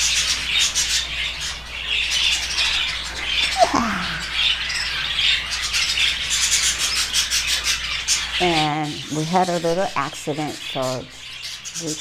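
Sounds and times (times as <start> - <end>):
parrots chattering and squawking: 0.0 - 12.0.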